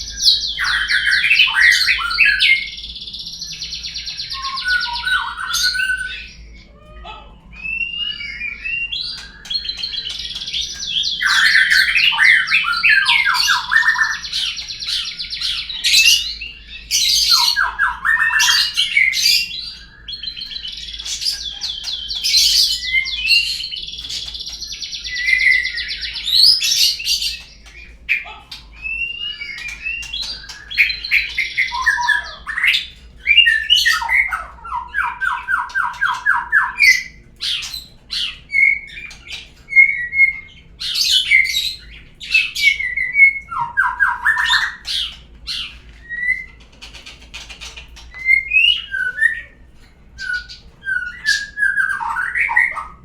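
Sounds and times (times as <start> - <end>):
songbird whistling and trilling: 0.0 - 6.7, 7.5 - 53.0.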